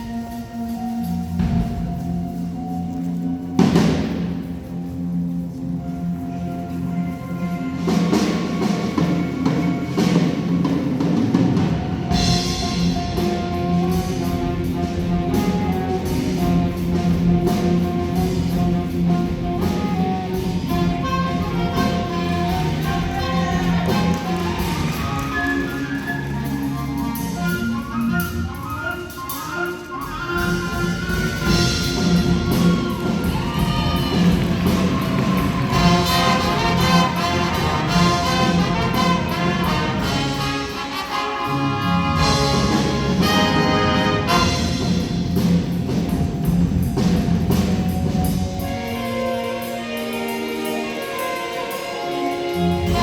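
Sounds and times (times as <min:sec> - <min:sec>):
brass and woodwind ensemble: 0:00.0 - 0:53.0
percussion strikes: 0:00.0 - 0:53.0.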